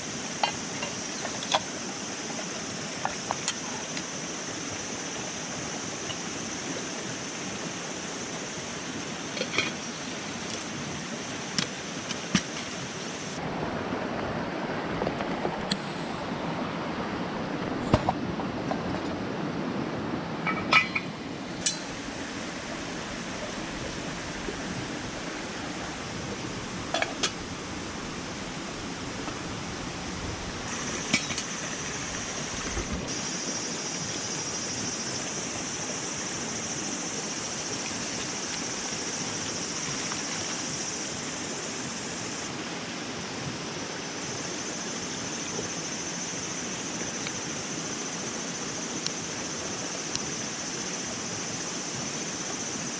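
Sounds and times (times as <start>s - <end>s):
high-pitched hiss: 0.0s - 13.4s, 20.5s - 52.9s
rushing water-like noise: 0.0s - 52.9s.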